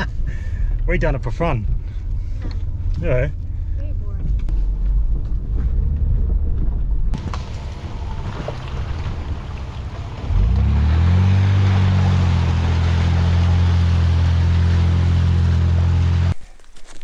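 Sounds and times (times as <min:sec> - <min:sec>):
car engine accelerating: 0:00.0 - 0:16.4
tyres on muddy dirt track: 0:00.0 - 0:17.0.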